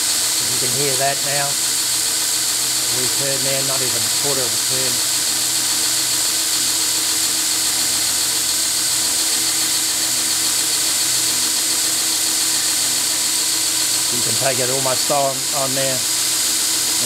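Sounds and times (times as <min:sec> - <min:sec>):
abrasive belt hiss: 0:00.0 - 0:17.0
electric motor hum: 0:00.0 - 0:17.0.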